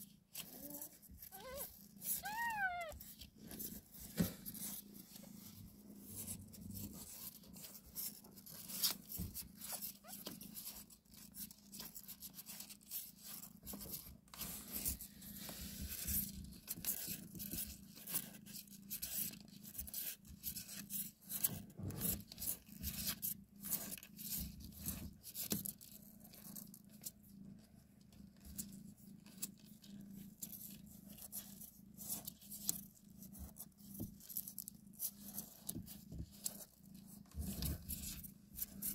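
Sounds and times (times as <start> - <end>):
crackling and rustling against cardboard: 0.0 - 38.9.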